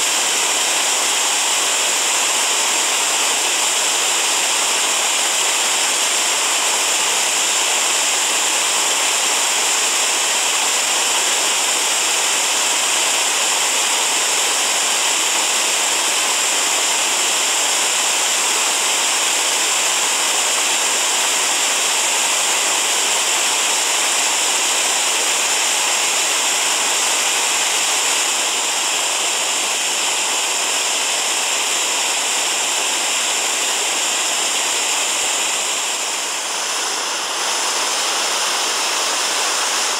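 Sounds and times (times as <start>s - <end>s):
white water rushing over boulders: 0.0s - 39.9s.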